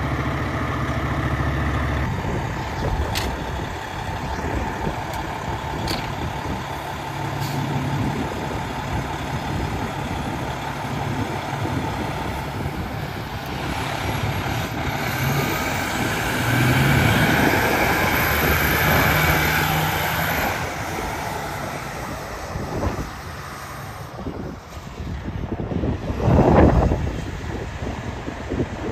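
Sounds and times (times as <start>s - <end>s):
diesel truck driving past: 0.0s - 28.9s.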